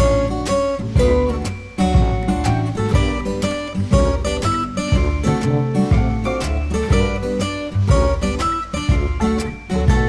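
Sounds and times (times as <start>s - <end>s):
acoustic guitar background music: 0.0s - 10.0s.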